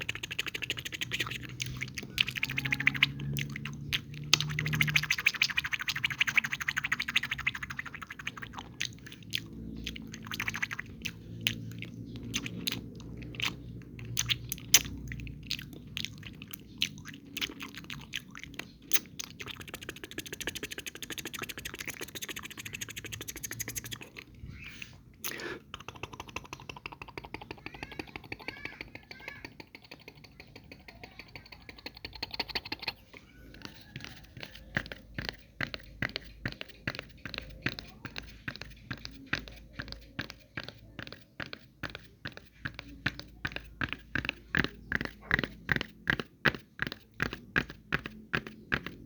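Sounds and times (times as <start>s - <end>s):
mouth sounds: 0.0s - 46.4s.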